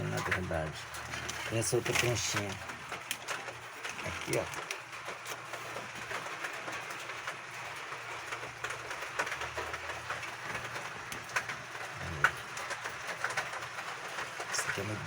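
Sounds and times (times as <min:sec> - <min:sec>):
rain on roof tiles: 0:00.0 - 0:15.0.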